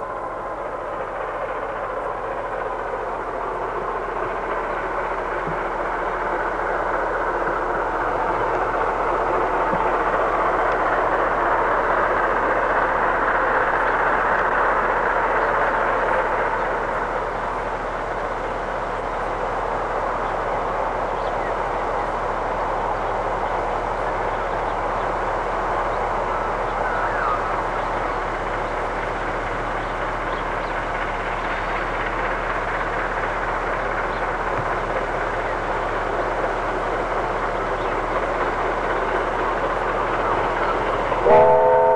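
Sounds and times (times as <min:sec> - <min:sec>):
distant steam train rushing: 0:00.0 - 0:41.9.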